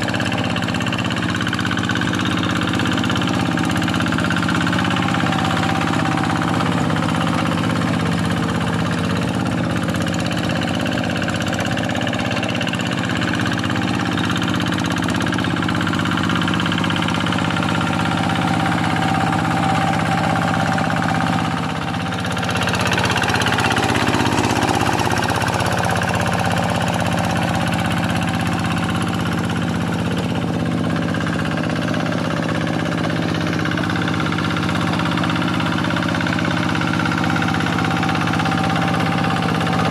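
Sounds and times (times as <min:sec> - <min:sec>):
hand tractor diesel engine running: 0:00.0 - 0:39.9.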